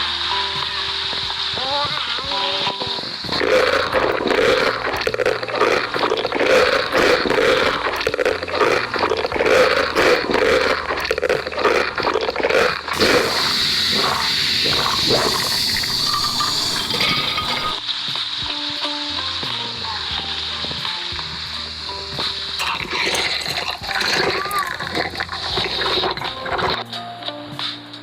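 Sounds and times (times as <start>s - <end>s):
food sizzling in a pan: 0.0s - 12.2s, 12.9s - 26.7s.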